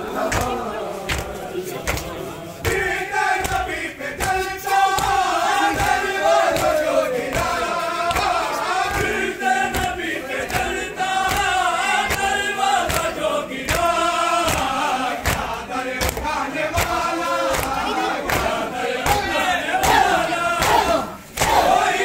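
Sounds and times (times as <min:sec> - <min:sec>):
men chanting a lament: 0:00.0 - 0:22.0
hands slapping on chests: 0:00.3 - 0:21.8.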